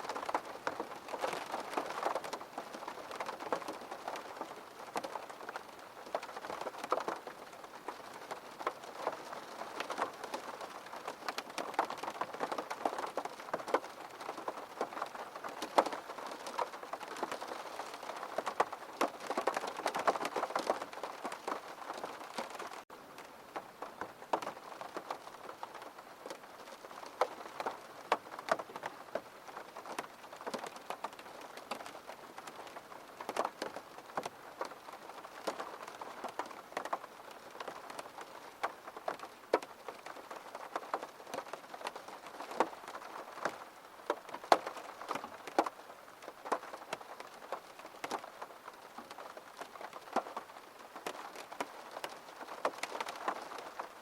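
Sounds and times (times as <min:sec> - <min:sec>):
raindrops tapping: 0:00.0 - 0:54.0
steady rain falling: 0:00.0 - 0:54.0.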